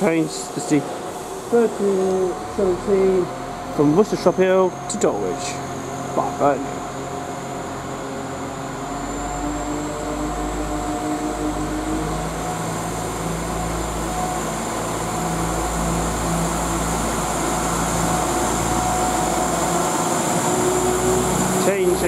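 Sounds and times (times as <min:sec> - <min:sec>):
diesel train engines pulling away: 0:00.0 - 0:22.0.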